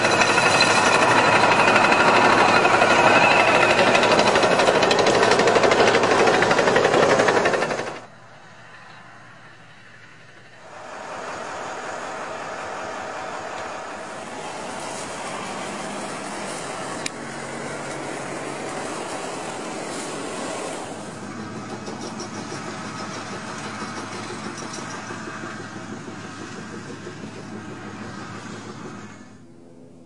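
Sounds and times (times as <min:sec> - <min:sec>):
machine engine running: 0:00.0 - 0:30.0.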